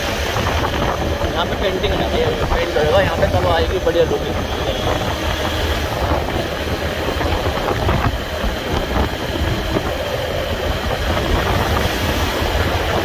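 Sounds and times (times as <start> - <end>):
motorcycle engine cruising: 0.0 - 13.0
road and wind noise: 0.0 - 13.0.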